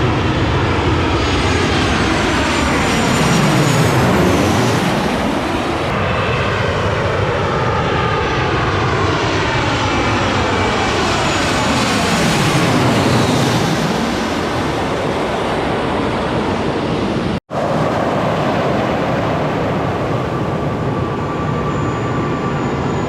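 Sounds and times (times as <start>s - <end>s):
jet engine roar overhead: 0.0s - 23.0s.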